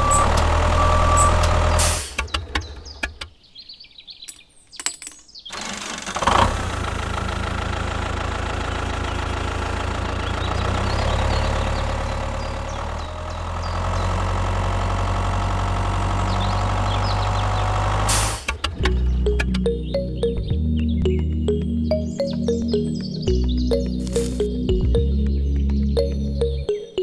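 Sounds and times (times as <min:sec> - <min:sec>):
tractor engine running: 0:00.0 - 0:02.8, 0:05.5 - 0:26.8.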